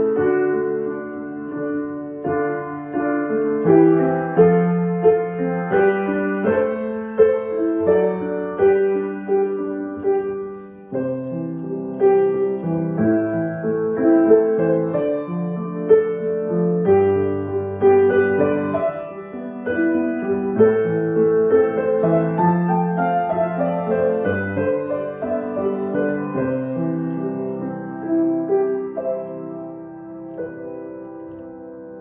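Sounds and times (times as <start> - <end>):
piano melody over chords: 0.0 - 32.0.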